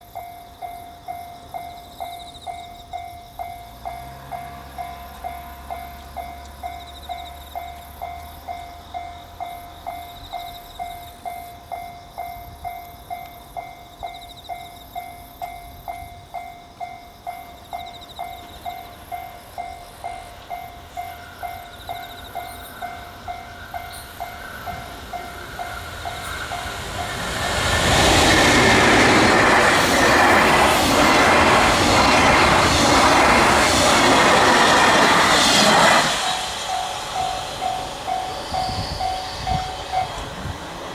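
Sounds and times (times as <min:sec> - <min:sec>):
freight train passing: 0:00.0 - 0:40.9
level-crossing warning bell ringing: 0:00.0 - 0:40.9.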